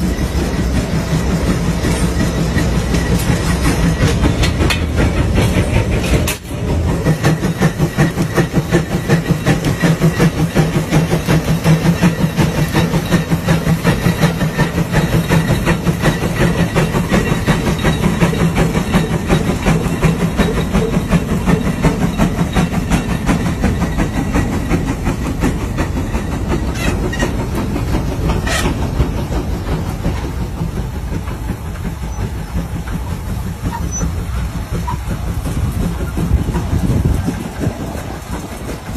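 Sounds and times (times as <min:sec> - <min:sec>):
steam engine exhaust chuffing: 0:00.0 - 0:38.9.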